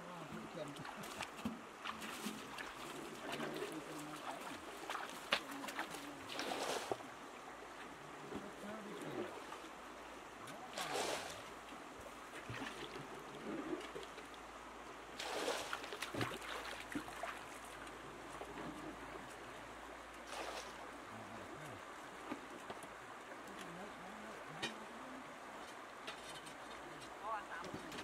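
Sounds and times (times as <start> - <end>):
river water flowing over stones: 0.0 - 28.0.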